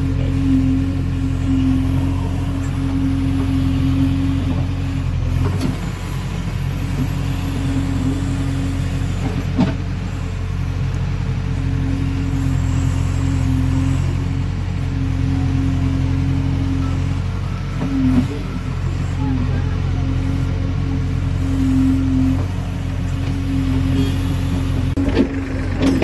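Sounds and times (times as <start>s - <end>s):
diesel engine under hydraulic load: 0.0s - 26.0s.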